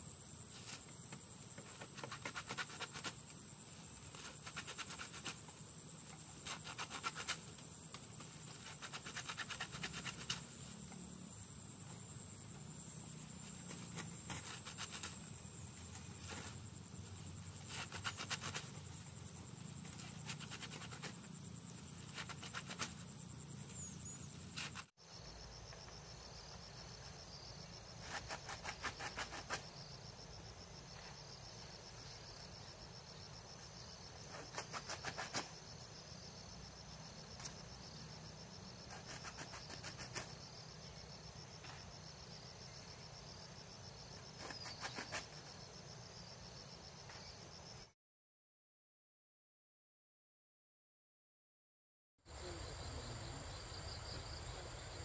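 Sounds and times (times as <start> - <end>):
insects buzzing: 0.0 - 47.9, 52.3 - 55.0
insect rapid clicking: 0.4 - 47.9.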